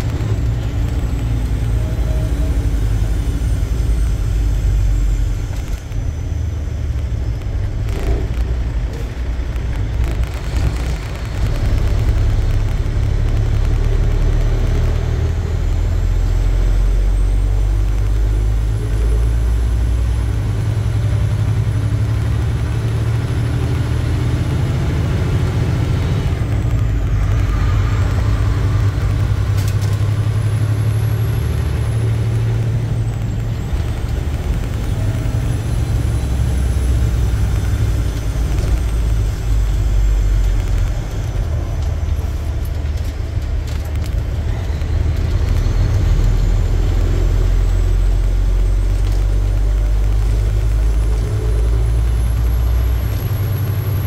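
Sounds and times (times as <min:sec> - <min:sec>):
diesel engine drone: 0:00.0 - 0:54.0
road noise: 0:00.0 - 0:54.0.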